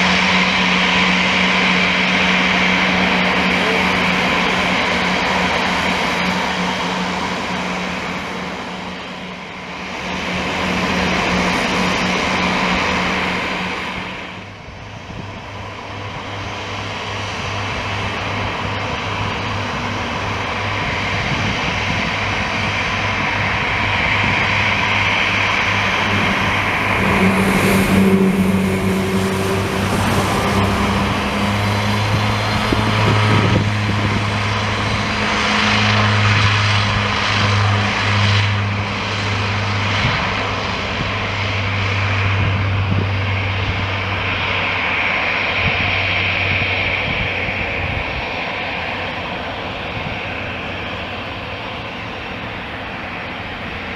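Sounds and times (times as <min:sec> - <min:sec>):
high turbine whine: 0:00.0 - 0:53.9
turboprop plane engines droning: 0:00.0 - 0:53.9.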